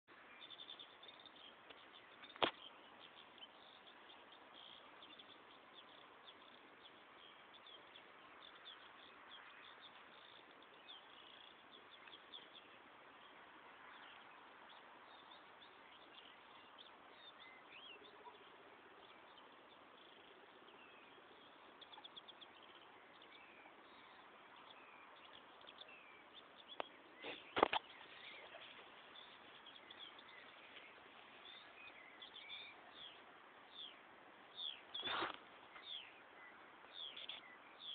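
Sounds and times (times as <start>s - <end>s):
faint birds chirping: 0.0s - 37.9s.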